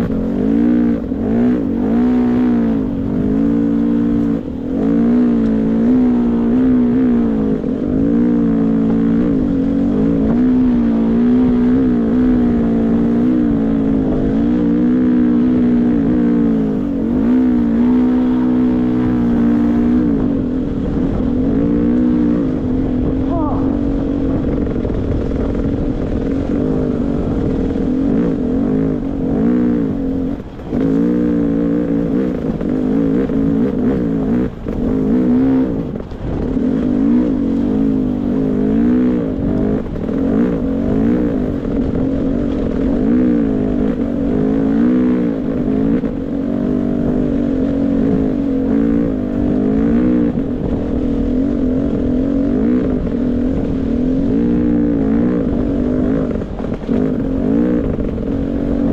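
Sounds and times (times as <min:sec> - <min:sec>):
two-stroke dirt bike engine: 0:00.0 - 0:58.9.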